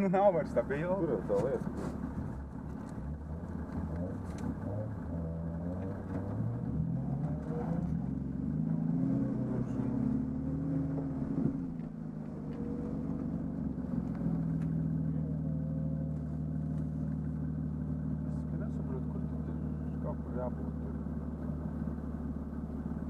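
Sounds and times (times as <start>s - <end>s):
car engine revving and idling: 0.0s - 23.0s.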